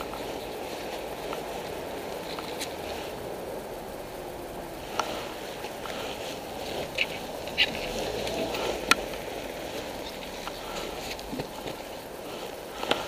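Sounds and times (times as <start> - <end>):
rustling handling noise: 0.0 - 4.0, 4.7 - 13.0
street background: 0.0 - 13.0.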